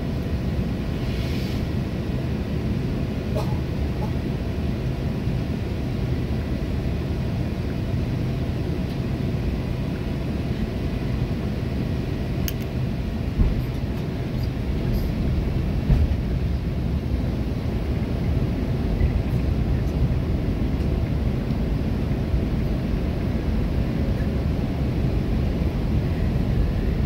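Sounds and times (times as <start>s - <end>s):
aircraft cabin engine rumble: 0.0s - 27.0s.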